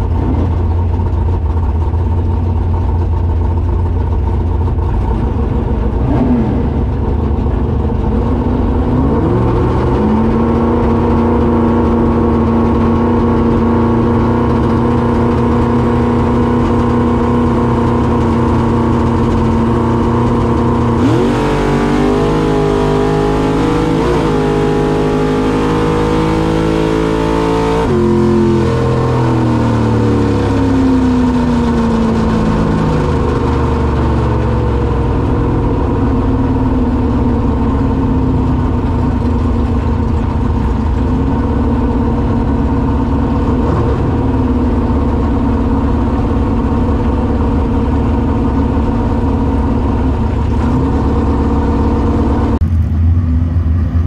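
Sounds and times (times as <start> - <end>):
truck engine revving: 3.5 - 54.0.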